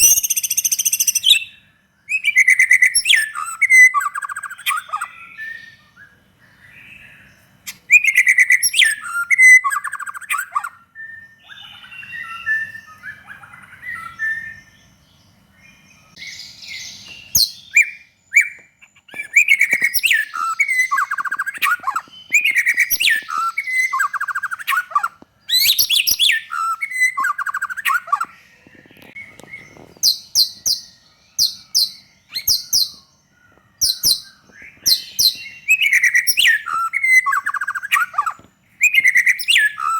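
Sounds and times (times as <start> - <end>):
bird singing whistled phrases: 0.0 - 6.2, 7.7 - 14.8, 16.2 - 28.4, 29.1 - 33.1, 33.8 - 39.9.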